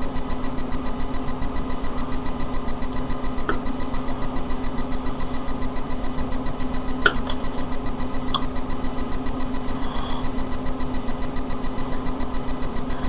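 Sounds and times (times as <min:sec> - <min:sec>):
pulsing mechanical hum: 0:00.0 - 0:13.0.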